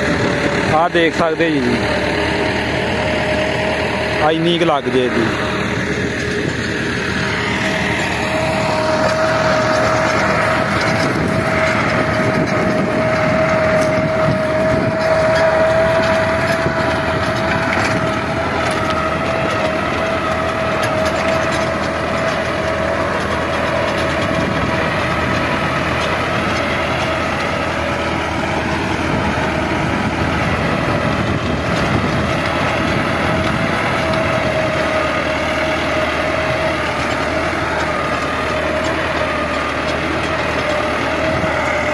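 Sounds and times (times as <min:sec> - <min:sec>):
rotary tiller whine: 0:00.0 - 0:41.9
tractor diesel engine under load: 0:00.0 - 0:41.9.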